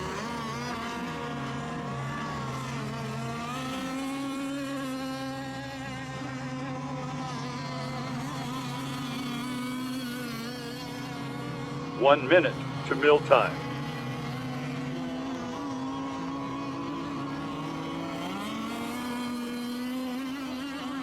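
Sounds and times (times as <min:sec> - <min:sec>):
racing boat engines buzzing: 0:00.0 - 0:21.0.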